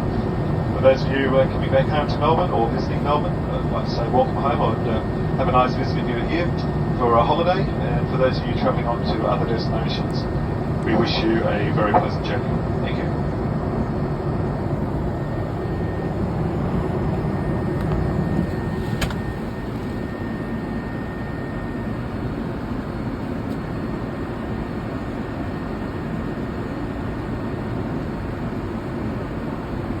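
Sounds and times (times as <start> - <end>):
airplane cabin noise: 0.0 - 30.0.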